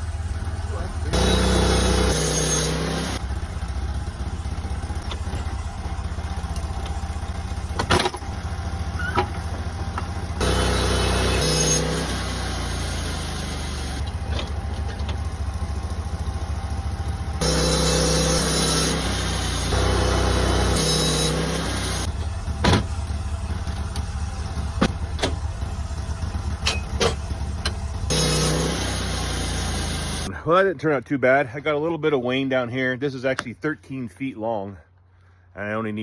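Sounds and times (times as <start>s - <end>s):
sawmill engine running: 0.0s - 30.6s.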